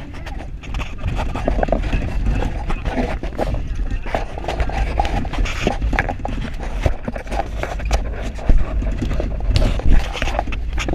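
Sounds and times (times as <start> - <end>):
vehicle body rattling and knocking: 0.0 - 10.9
vehicle engine and road rumble: 0.0 - 10.9.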